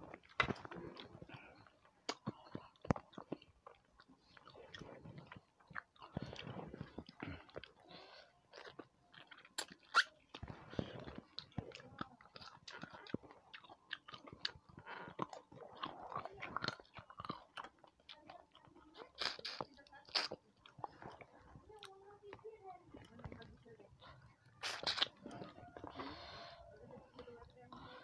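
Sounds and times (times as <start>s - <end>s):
chewing and wet mouth sounds: 0.0s - 28.0s.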